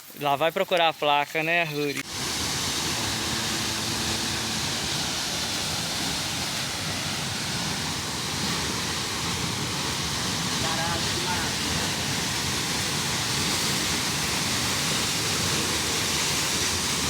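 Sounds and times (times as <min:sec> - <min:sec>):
falling water rushing: 0:00.0 - 0:17.0.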